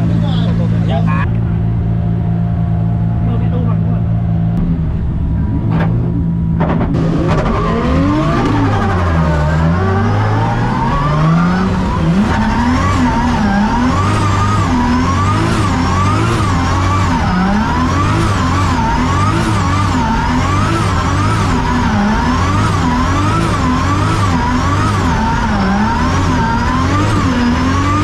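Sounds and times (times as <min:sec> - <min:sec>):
car engine idling: 0:00.0 - 0:28.0
car engine revving: 0:00.0 - 0:28.0.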